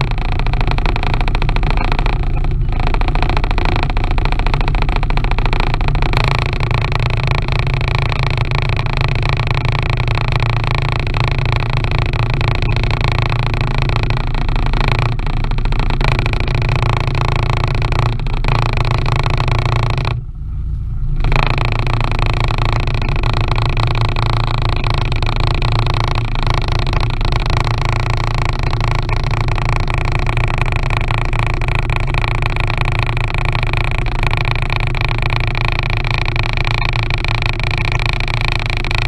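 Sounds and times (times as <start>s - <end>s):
outboard motor running: 0.0s - 39.0s.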